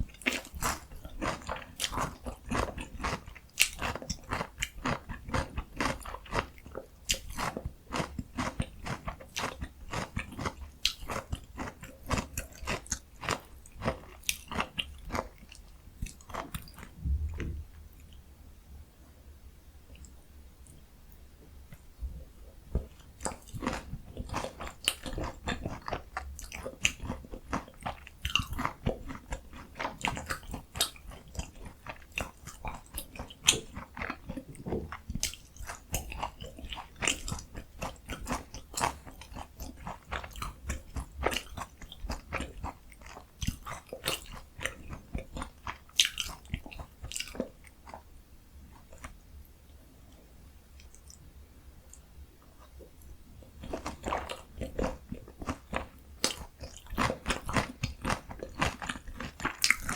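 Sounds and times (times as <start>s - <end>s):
chewing crunchy fried food: 0.0s - 18.2s, 22.6s - 59.9s.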